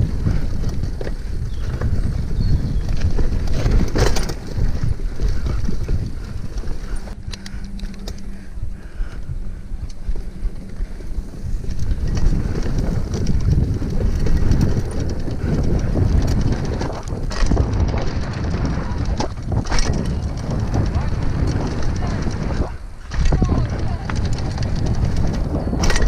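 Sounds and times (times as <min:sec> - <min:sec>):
bike clattering over bumps: 0:00.0 - 0:26.0
bike rattling: 0:00.0 - 0:26.0
bike tyres rumbling: 0:00.0 - 0:26.0
wind rushing over microphone: 0:00.0 - 0:26.0.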